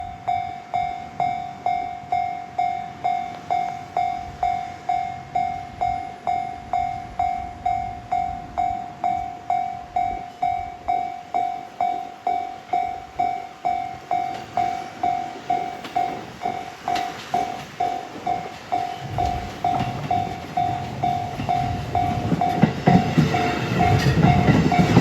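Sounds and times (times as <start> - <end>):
level crossing warning bell: 0.0 - 25.0.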